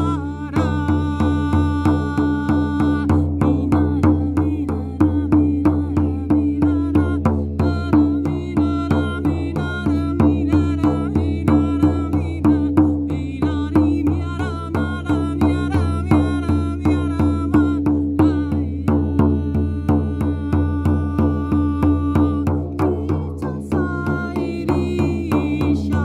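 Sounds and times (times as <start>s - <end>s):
frame drum beating: 0.0s - 26.0s.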